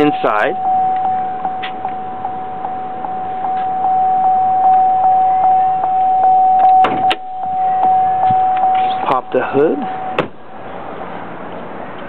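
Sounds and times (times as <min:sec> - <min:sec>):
pulsing vehicle warning chime: 0:00.0 - 0:10.2.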